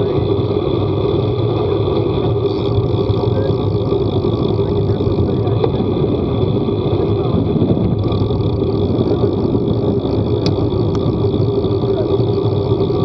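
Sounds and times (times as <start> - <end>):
vehicle running low rumble: 0.0 - 13.0.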